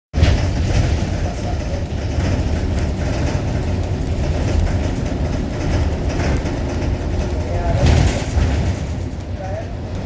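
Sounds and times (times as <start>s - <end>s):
wind buffeting microphone: 0.1s - 10.0s.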